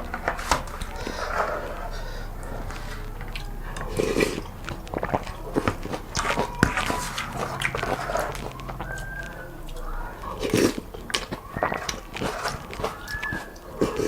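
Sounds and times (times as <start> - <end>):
person chewing noodles: 0.0 - 14.0.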